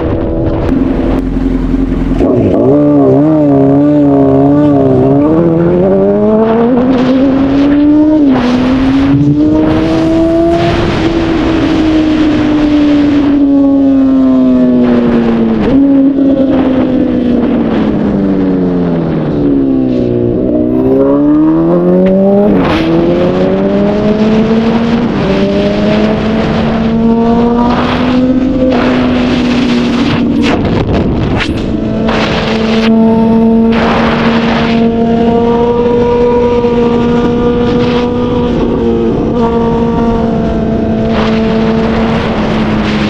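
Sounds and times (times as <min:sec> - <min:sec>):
motorcycle engine revving: 0:00.0 - 0:43.0
wind rushing over microphone: 0:00.0 - 0:43.0.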